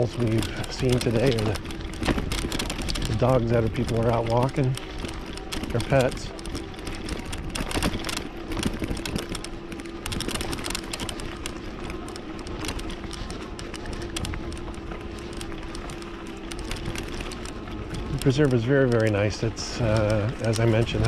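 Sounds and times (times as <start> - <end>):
bike rattling over rough ground: 0.0 - 21.0
electric bike motor whine: 0.0 - 21.0.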